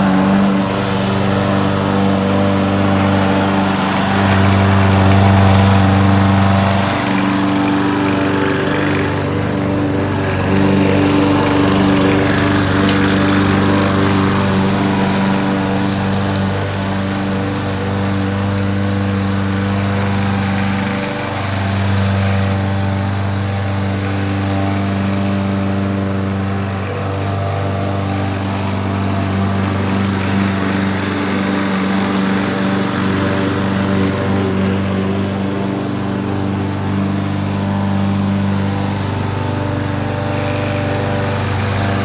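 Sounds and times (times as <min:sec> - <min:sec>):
lawn mower engine running: 0:00.0 - 0:42.0.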